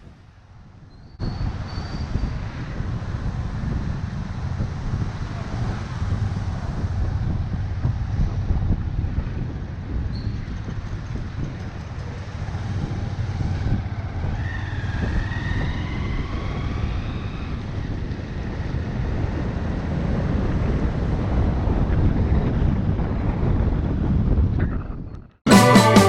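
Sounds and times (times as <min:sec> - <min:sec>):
street traffic rumbling: 0:00.0 - 0:24.6
wind buffeting microphone: 0:00.0 - 0:25.4.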